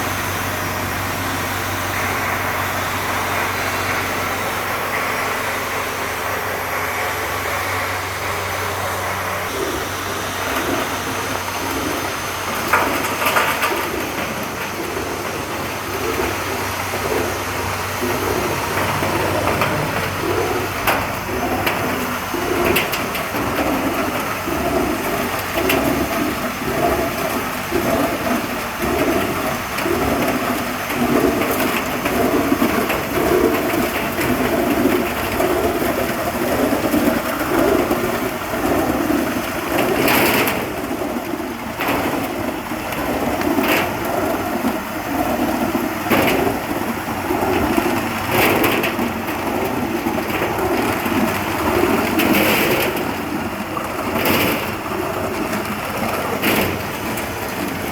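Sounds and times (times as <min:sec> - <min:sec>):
ice machine running: 0:00.0 - 0:57.9.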